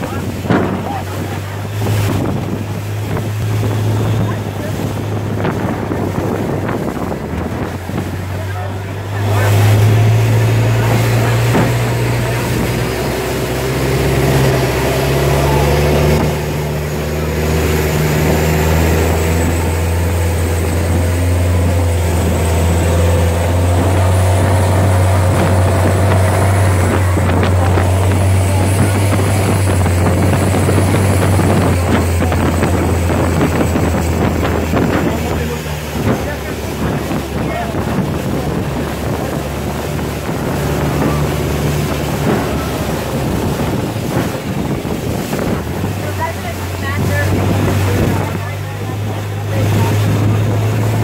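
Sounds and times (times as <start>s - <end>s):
boat engine drone: 0.0s - 51.0s
water rushing along hull: 0.0s - 51.0s.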